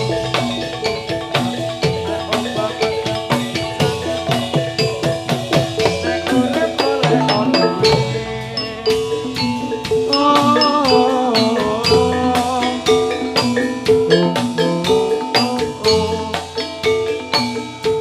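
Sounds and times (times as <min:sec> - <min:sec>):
drum beats: 0:00.0 - 0:18.0
metallophones striking fast notes: 0:00.0 - 0:18.0
wavering melody line: 0:00.0 - 0:18.0.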